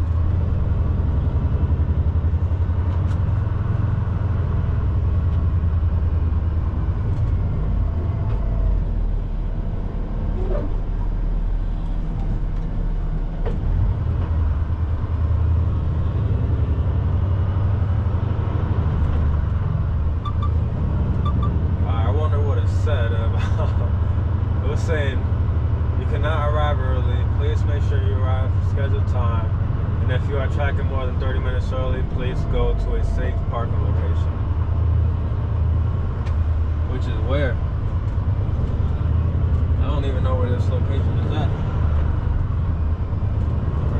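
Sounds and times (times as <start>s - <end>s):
truck diesel engine droning: 0.0s - 43.9s.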